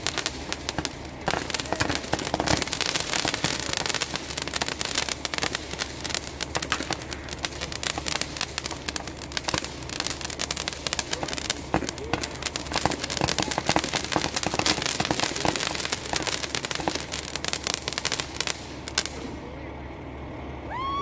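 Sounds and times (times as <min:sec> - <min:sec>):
fireworks crackling: 0:00.0 - 0:21.0
loud firework reports: 0:00.0 - 0:21.0.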